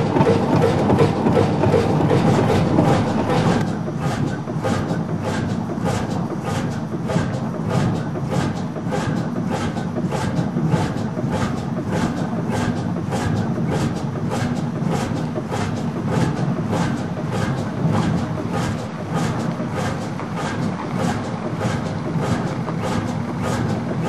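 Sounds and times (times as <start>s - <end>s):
two-stroke engine exhaust beating: 0.0s - 24.0s.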